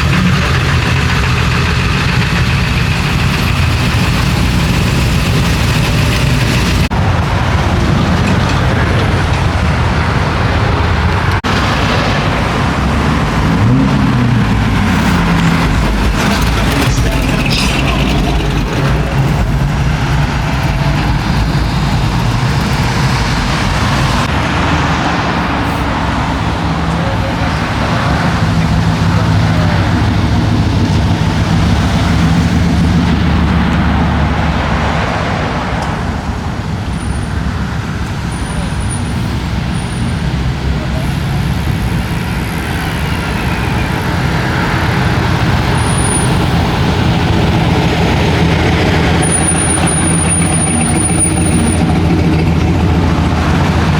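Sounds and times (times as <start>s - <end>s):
car engine: 0.0s - 53.9s
road noise: 0.0s - 53.9s.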